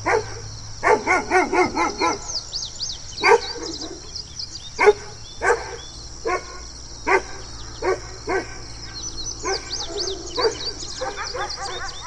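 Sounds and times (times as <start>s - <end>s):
dog barking: 0.0s - 2.4s, 3.2s - 4.1s, 4.8s - 8.6s, 9.4s - 12.0s.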